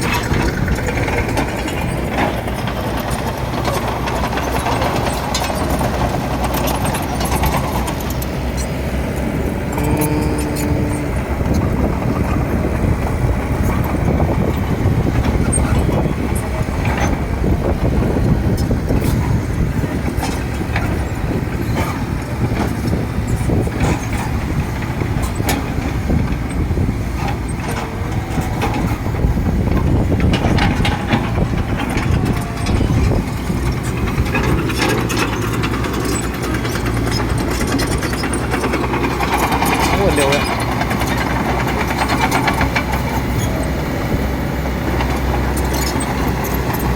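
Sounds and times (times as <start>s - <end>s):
low diesel engine rumble: 0.0s - 46.9s.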